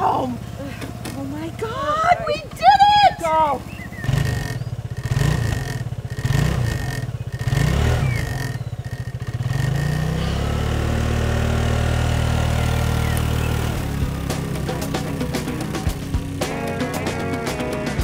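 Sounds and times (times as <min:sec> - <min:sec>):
scooter engine revving: 0:00.0 - 0:18.0.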